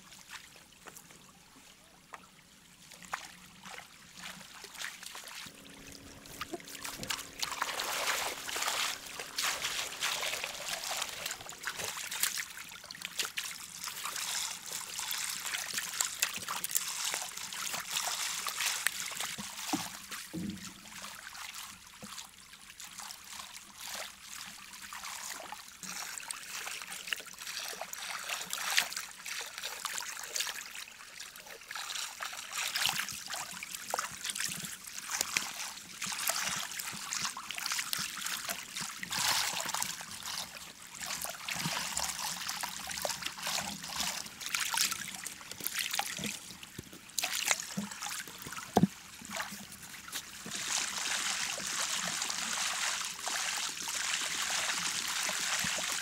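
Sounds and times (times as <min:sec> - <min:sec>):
river water trickling and splashing: 0:00.0 - 0:56.0.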